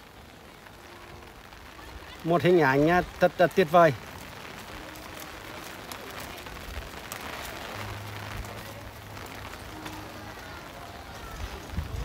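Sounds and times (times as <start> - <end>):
light rain on wet paving: 0.0 - 12.0.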